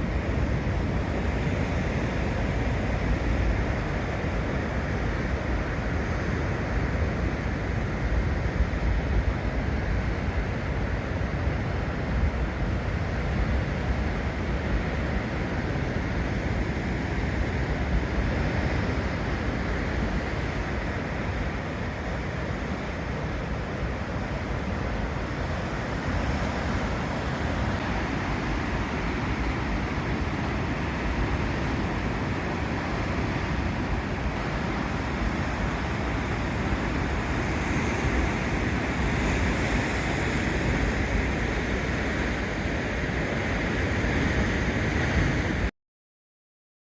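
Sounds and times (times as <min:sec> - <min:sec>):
surf washing on rocky shore: 0:00.0 - 0:45.7.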